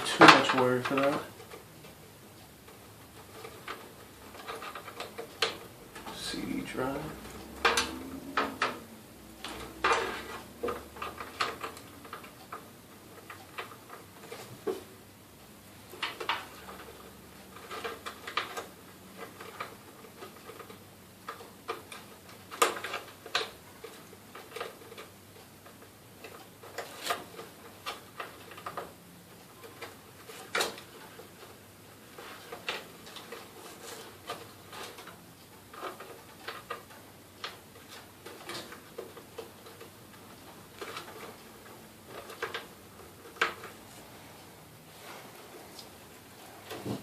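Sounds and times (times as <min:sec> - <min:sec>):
cables and plastic connectors clicking: 0:00.0 - 0:14.8, 0:15.8 - 0:44.0.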